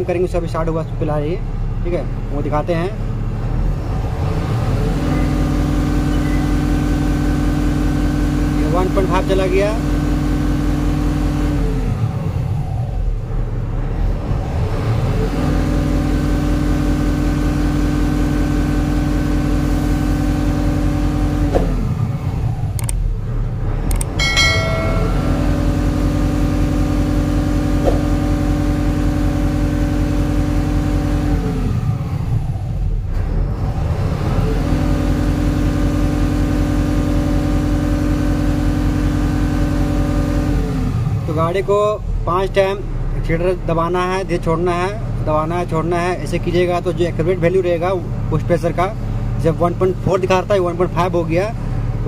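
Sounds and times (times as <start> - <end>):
diesel truck engine revving: 0.0 - 24.2, 25.4 - 52.0.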